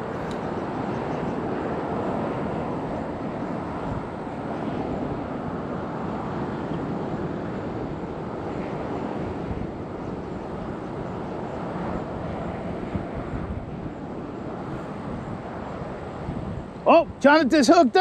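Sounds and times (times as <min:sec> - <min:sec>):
distant road traffic: 0:00.0 - 0:18.0
wind: 0:00.0 - 0:18.0.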